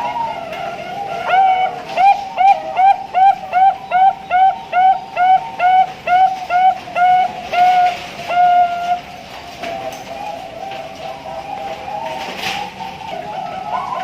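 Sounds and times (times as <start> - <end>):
dove cooing song: 0.0 - 14.0.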